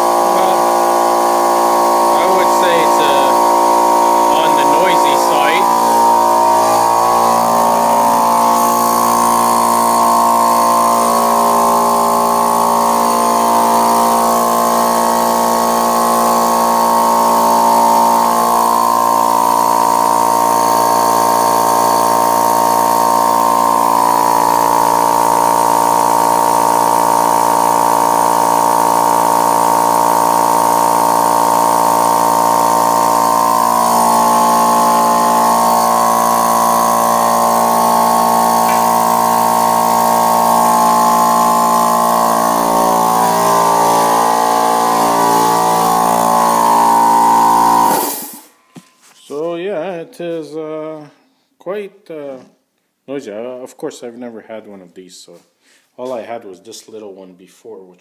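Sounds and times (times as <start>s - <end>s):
air compressor running: 0.0s - 49.2s.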